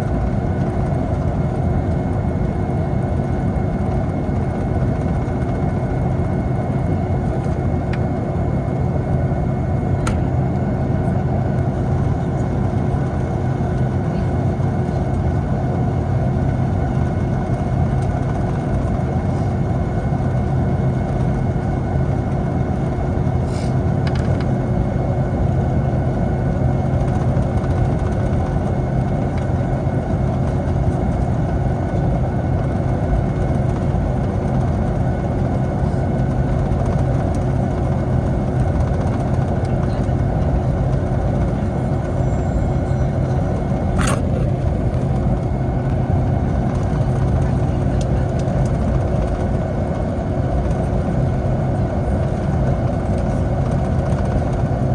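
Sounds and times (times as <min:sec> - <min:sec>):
aircraft cabin engine noise: 0:00.0 - 0:54.9.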